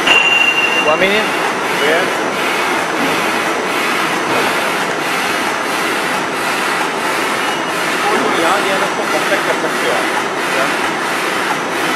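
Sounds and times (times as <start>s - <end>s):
production line mechanical noise: 0.0s - 11.9s.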